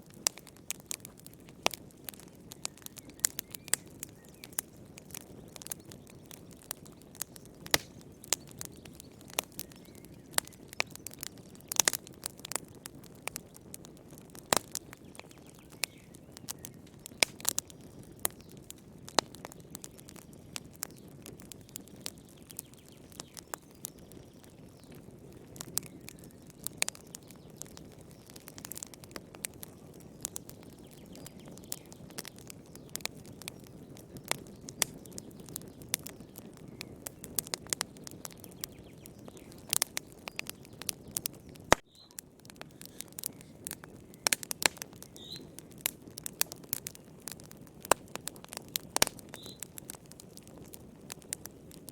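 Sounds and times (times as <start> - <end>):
fire crackling in a fireplace: 0.0 - 51.9.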